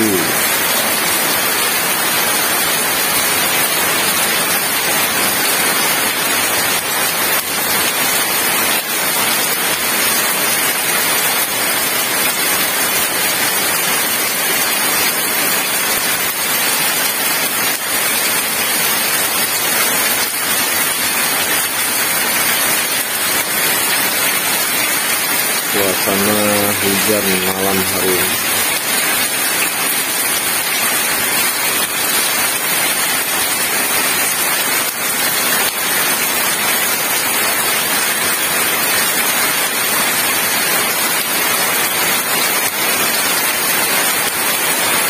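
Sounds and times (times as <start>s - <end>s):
heavy rain on pavement: 0.0s - 45.0s.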